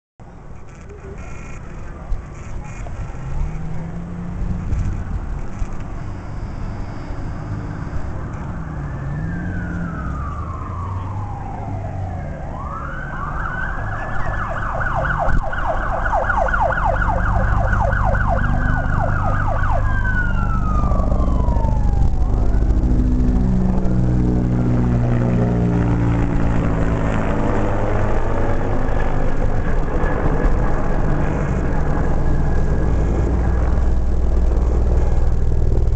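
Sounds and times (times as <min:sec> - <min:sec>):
loud low engine rumble: 0:00.3 - 0:35.9
emergency siren wailing and yelping: 0:05.6 - 0:34.7.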